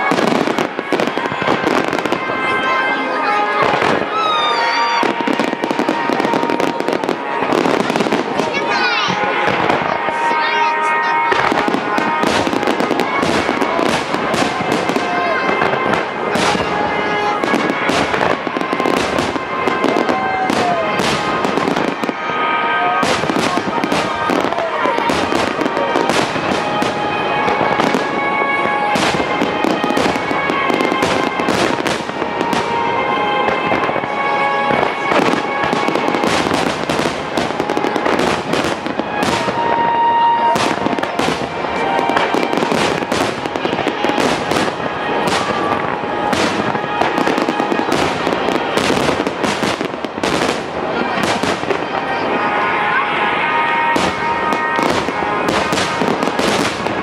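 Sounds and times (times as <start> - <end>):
fireworks bursting with crackling: 0.0 - 57.0
music: 0.0 - 57.0.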